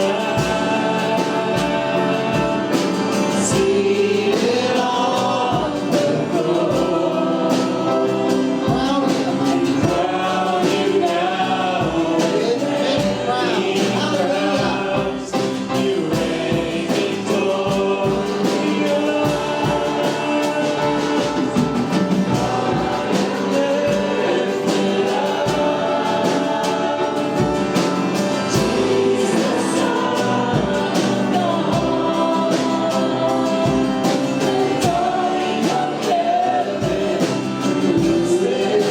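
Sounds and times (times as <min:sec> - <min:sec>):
group singing worship song: 0:00.0 - 0:38.9
instrumental accompaniment: 0:00.0 - 0:38.9.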